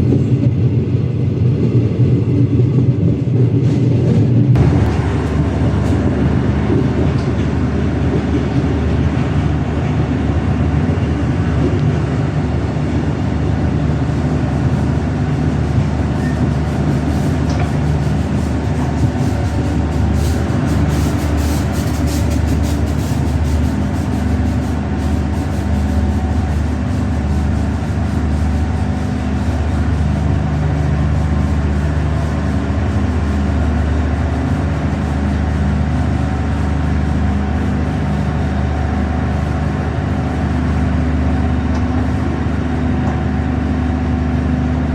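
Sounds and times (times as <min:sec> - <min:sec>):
train rumble and hum: 0:00.0 - 0:44.9.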